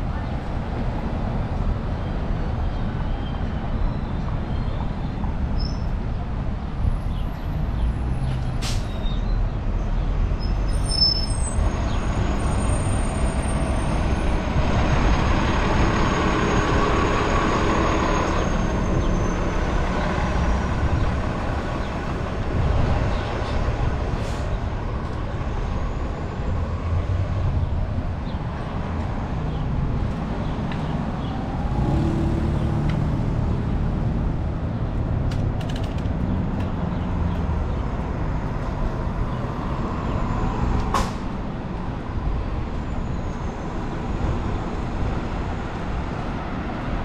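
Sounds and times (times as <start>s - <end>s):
street traffic rumble: 0.0s - 47.0s.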